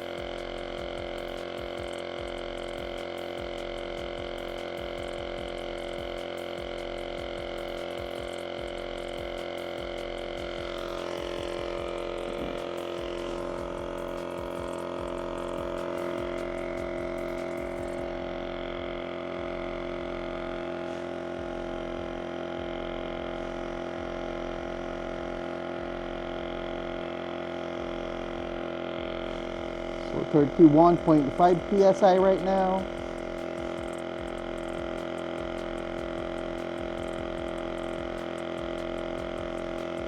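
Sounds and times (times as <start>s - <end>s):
portable tire inflator pumping air: 0.0s - 40.0s.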